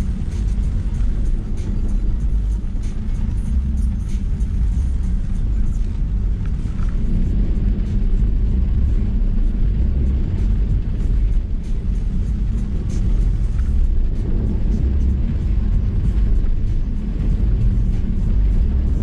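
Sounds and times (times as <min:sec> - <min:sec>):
engine and tyres rumbling: 0:00.0 - 0:19.0.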